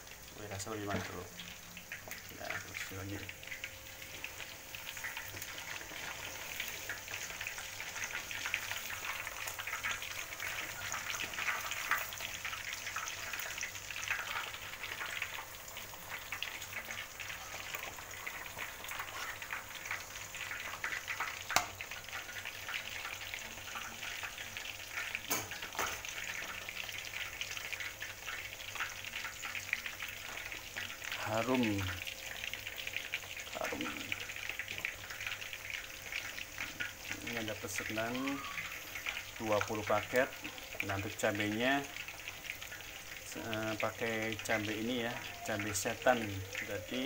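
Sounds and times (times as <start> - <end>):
chicken sizzling in hot oil: 0.0 - 47.0.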